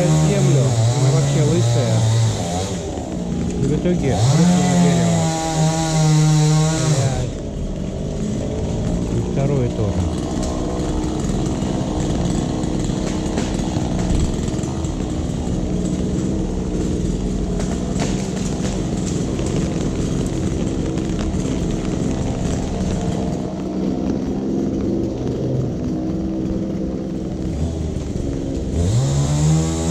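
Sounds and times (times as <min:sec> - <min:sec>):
engine running steadily: 0:00.0 - 0:29.9.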